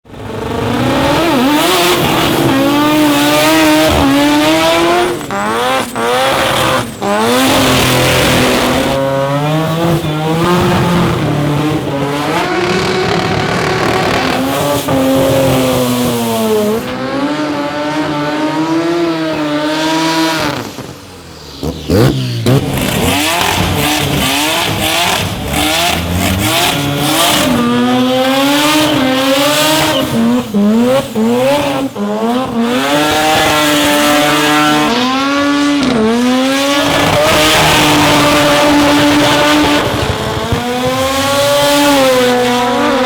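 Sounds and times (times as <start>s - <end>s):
rotary engines revving hard: 0.1s - 43.0s.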